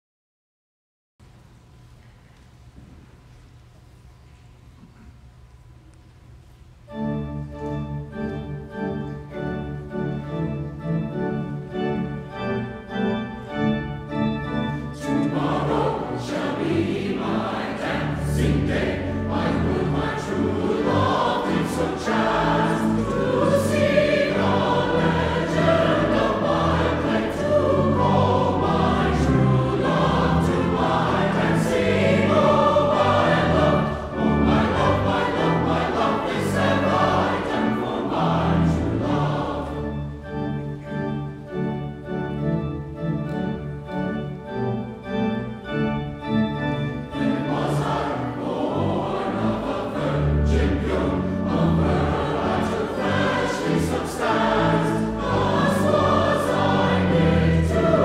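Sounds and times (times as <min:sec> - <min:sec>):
instrumental accompaniment: 0:06.8 - 0:58.0
mixed choir singing a carol: 0:08.4 - 0:42.6, 0:44.6 - 0:58.0.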